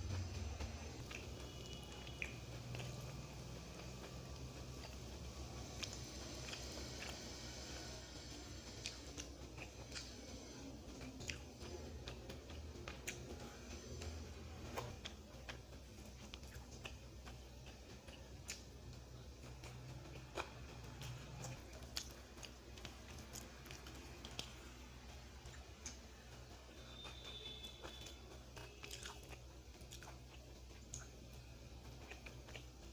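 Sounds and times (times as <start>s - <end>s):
low steady hum: 0.0s - 32.9s
person chewing food: 0.6s - 32.9s.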